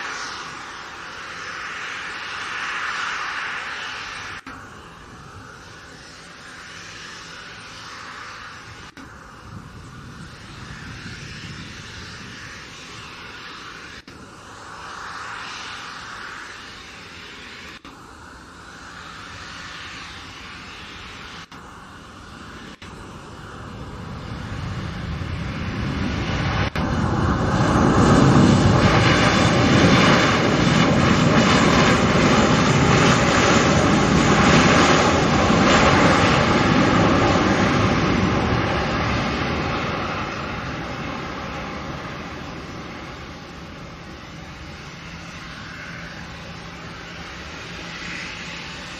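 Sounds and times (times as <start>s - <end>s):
jet engines on landing airliner: 0.0s - 48.9s.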